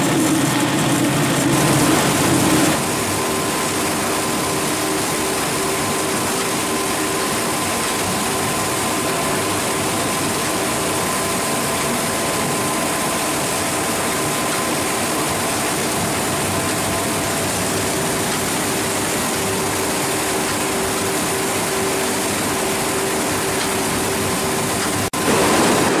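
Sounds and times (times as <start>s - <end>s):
factory machinery running: 0.0s - 26.0s.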